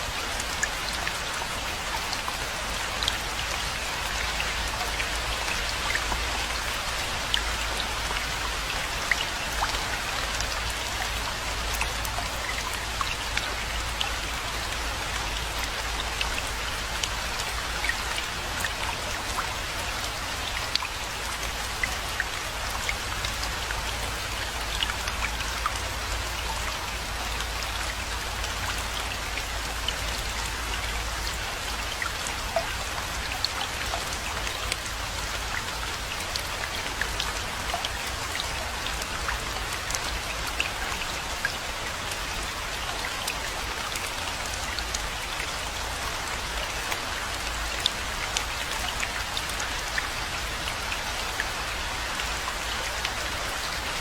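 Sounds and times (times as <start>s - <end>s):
raindrops ticking on surfaces: 0.0s - 54.0s
steady rain hiss: 0.0s - 54.0s.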